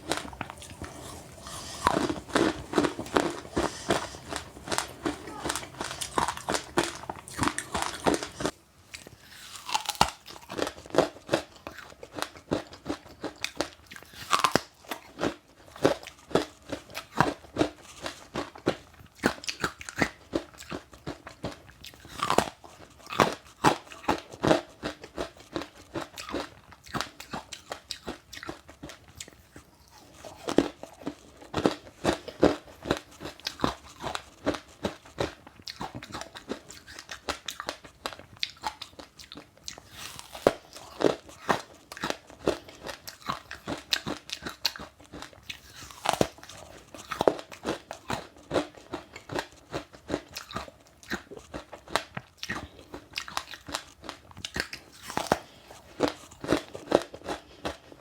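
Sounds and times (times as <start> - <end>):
chewing crunchy seeds: 0.0 - 58.0.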